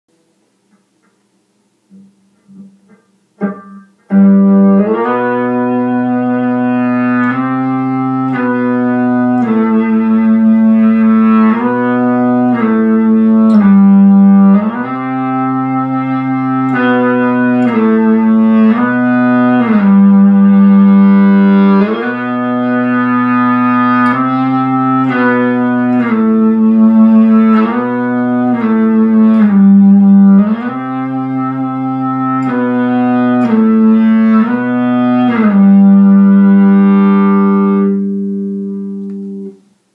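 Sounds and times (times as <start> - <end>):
steady low drone note: 1.9 - 39.6
cello playing long notes: 1.9 - 39.7.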